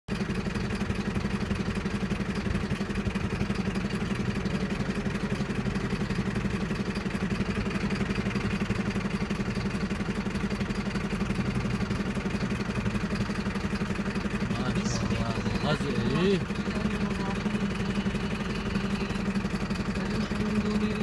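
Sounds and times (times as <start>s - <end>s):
vehicle engine idling: 0.1s - 21.0s.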